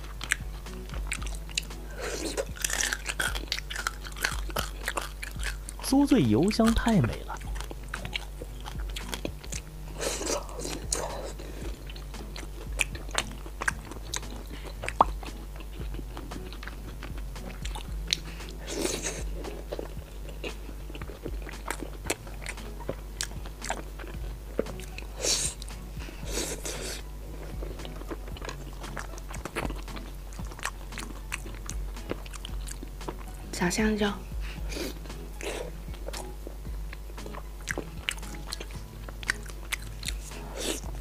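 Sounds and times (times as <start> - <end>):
crunchy food chewing: 0.0 - 33.5, 34.4 - 41.0.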